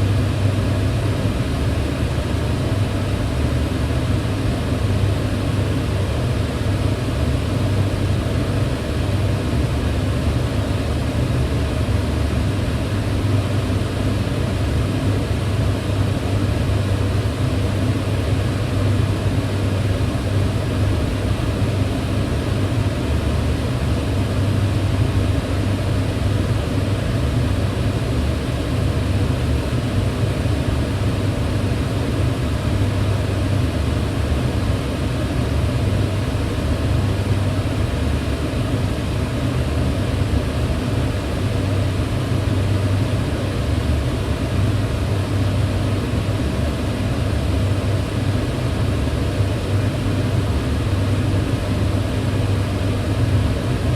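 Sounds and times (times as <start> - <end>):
fan motor hum: 0.0 - 53.9.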